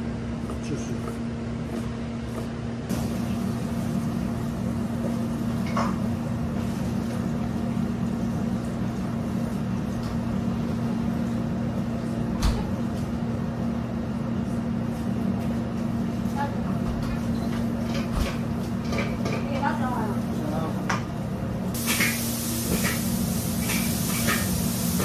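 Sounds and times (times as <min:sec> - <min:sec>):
kitchen equipment humming: 0:00.0 - 0:25.0.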